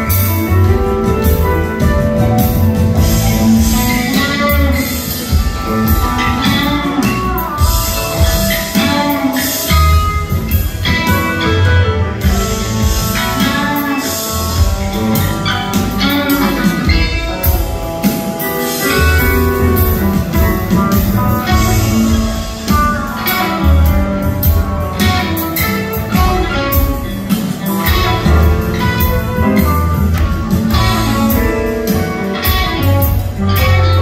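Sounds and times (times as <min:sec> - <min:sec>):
drums: 0:00.0 - 0:34.0
guitar: 0:00.0 - 0:34.0
piano: 0:00.0 - 0:34.0
upright bass: 0:00.0 - 0:34.0.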